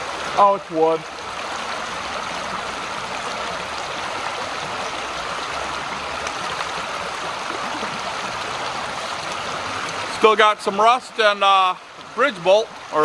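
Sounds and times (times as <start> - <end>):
creek flowing over rocks: 0.0 - 13.0.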